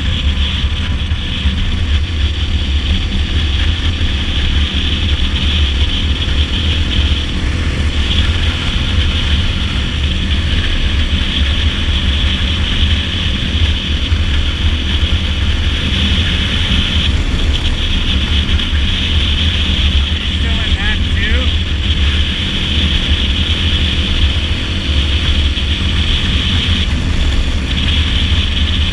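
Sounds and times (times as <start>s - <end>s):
dirt bike engine cruising: 0.0s - 28.9s
wind rumble on microphone: 0.0s - 28.9s.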